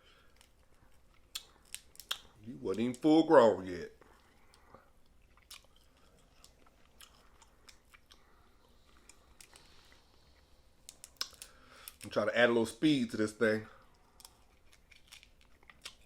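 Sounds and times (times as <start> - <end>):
chewing and crunching crab: 0.0 - 12.2, 13.8 - 16.0.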